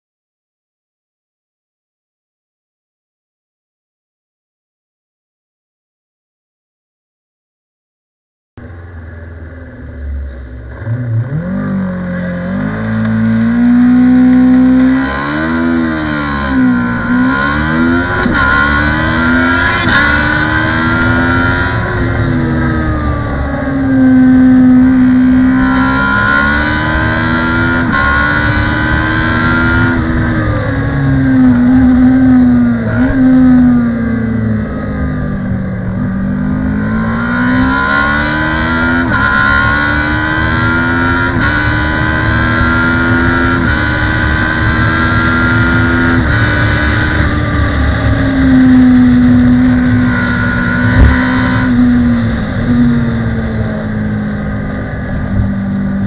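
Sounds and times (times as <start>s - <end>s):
motorcycle engine accelerating: 8.6s - 56.0s.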